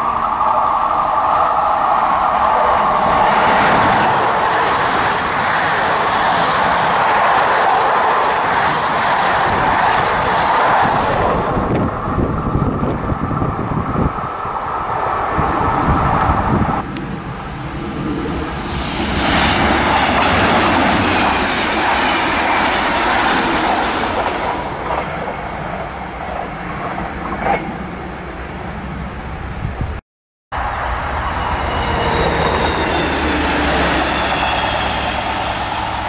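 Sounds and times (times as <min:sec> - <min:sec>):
electric train wheels over rail joints: 0:00.0 - 0:29.8, 0:30.6 - 0:36.0
train passing at speed: 0:00.0 - 0:29.9, 0:30.5 - 0:36.0.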